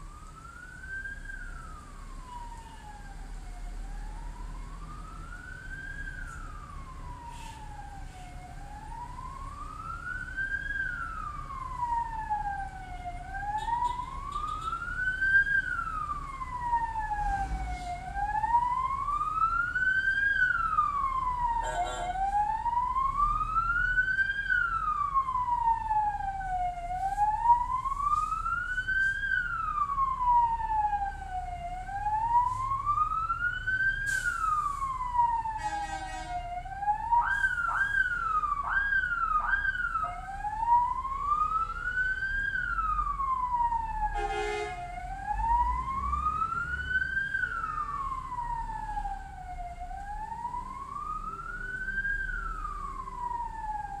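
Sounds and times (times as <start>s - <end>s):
ambulance siren wailing: 0.0s - 54.0s.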